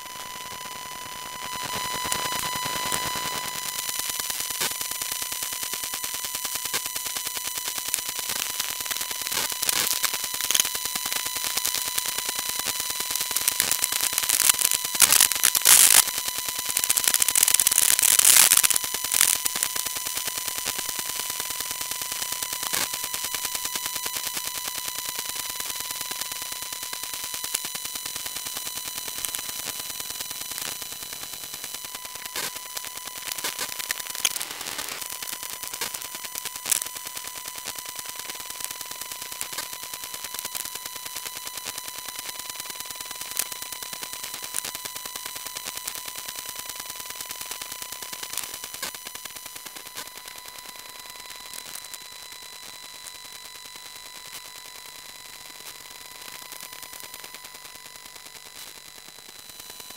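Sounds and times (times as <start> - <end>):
high electrical buzz: 0.0 - 59.9
rapid crackling static: 0.0 - 59.9.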